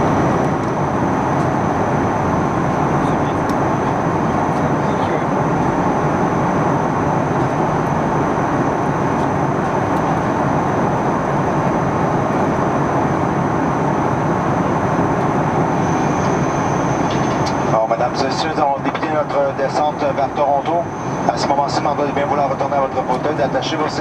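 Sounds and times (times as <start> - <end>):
aircraft cabin engine roar: 0.0 - 24.0
faint high whine: 0.0 - 24.0.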